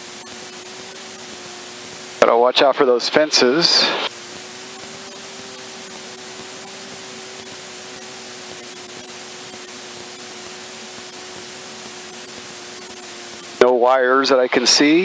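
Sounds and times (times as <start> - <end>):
muffled aircraft engine drone: 0.0 - 15.0
steady hiss: 0.0 - 15.0.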